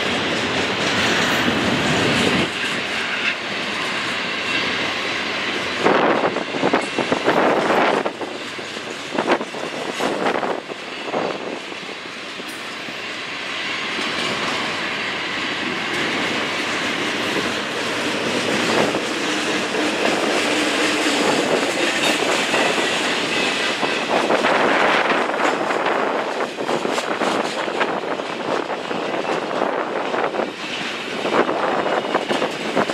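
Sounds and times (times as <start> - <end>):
wind buffeting microphone: 0.0 - 12.5, 13.1 - 32.9
train wheels on rails: 0.0 - 32.9.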